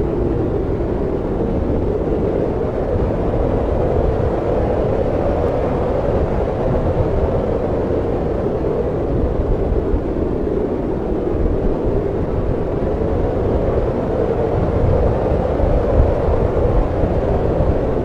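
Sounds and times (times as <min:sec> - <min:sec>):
wind blowing: 0:00.0 - 0:18.0.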